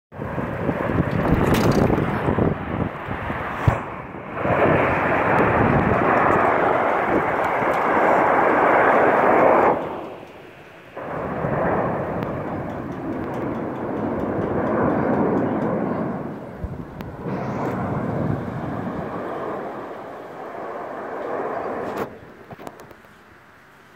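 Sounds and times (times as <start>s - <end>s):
jets flying overhead: 0.1s - 23.9s.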